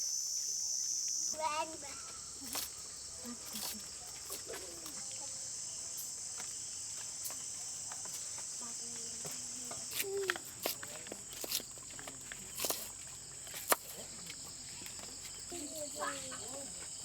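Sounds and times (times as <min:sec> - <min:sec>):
insects singing: 0:00.0 - 0:17.0.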